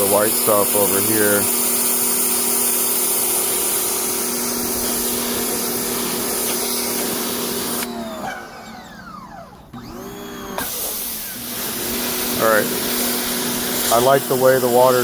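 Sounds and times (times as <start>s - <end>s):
pressure washer spraying: 0.0s - 7.9s, 10.5s - 15.0s
motor-pump hum: 0.0s - 14.3s
motor winding down whine: 2.3s - 15.0s.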